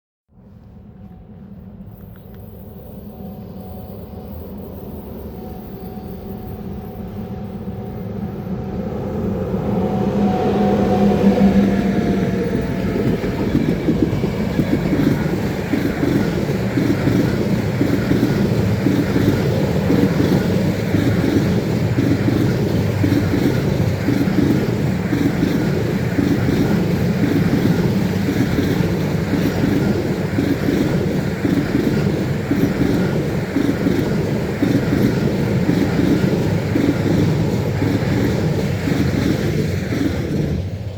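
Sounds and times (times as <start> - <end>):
freight train rumbling past: 0.4 - 40.9.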